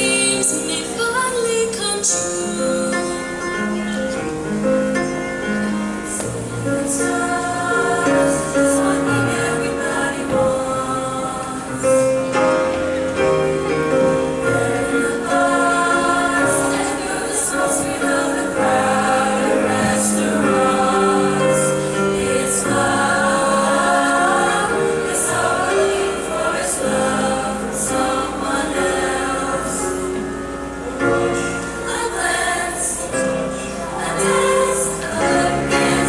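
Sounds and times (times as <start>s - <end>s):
choir singing in harmony: 0.0s - 36.0s
grand piano: 0.0s - 36.0s.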